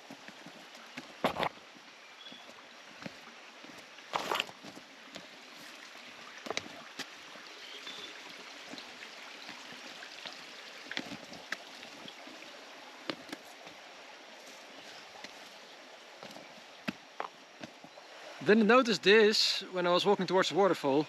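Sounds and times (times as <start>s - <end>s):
footsteps on forest trail: 0.0s - 18.0s
stream water flowing: 0.0s - 21.0s.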